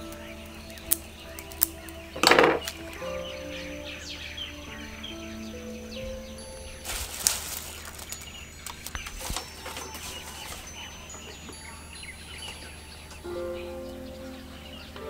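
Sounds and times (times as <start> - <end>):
birds chirping: 0.0 - 15.0
soft music: 0.0 - 15.0.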